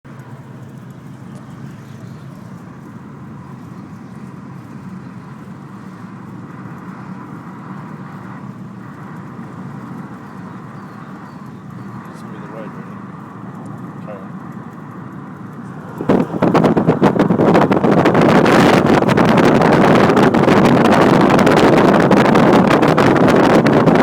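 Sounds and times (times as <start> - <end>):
car road rumble: 0.0 - 24.0.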